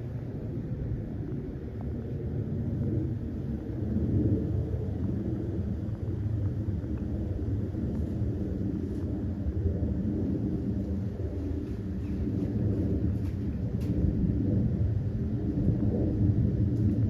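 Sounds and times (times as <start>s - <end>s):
aircraft engines rumbling: 0.0s - 17.0s.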